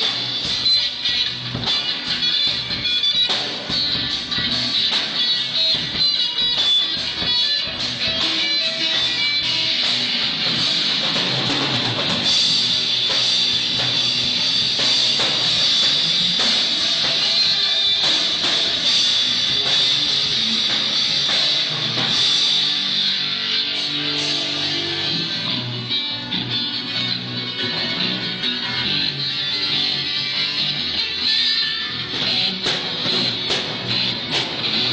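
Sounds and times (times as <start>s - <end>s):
drum kit: 0.0s - 34.9s
electric guitar strumming: 0.0s - 34.9s.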